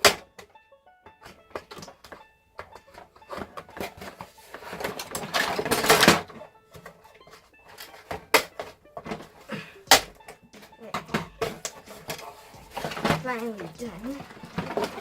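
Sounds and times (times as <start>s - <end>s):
toy packaging clicks and knocks: 0.0s - 15.0s
packaging rustling and scraping: 1.6s - 9.6s, 10.5s - 15.0s.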